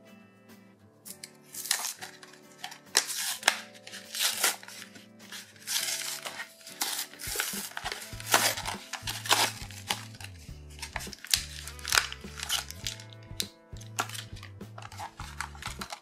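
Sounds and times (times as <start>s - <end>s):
background music: 0.0s - 16.0s
plastic packaging tearing and crinkling: 1.1s - 16.0s.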